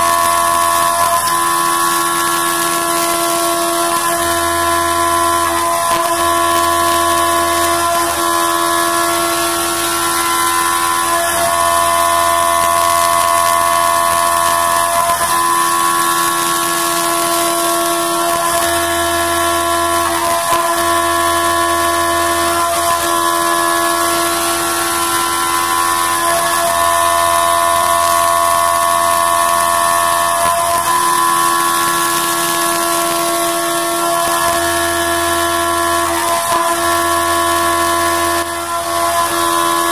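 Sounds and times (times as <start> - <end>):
coolant hiss: 0.0 - 39.9
milling machine cutter whine: 0.0 - 39.9.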